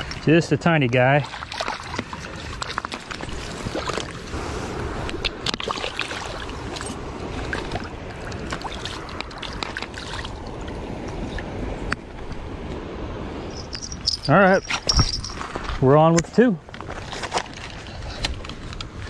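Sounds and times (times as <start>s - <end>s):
river water: 0.0s - 19.0s
wind: 0.0s - 19.0s.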